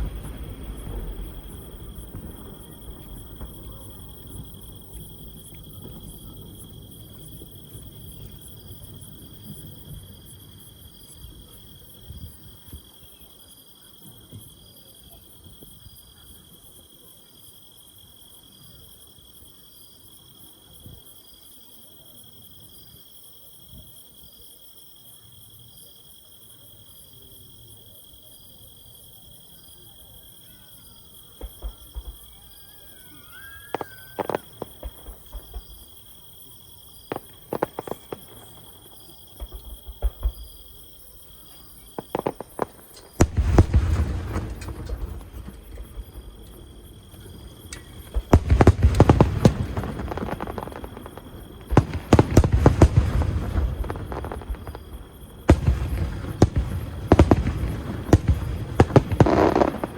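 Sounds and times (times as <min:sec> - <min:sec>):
night insects trilling: 0:00.0 - 0:59.9.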